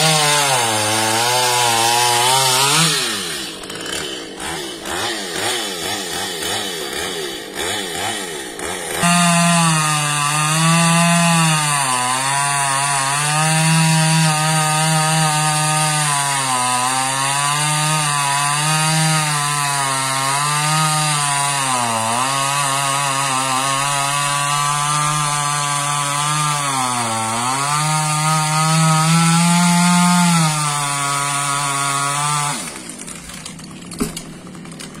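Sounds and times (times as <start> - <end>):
chainsaw cutting tree trunk: 0.0 - 35.0.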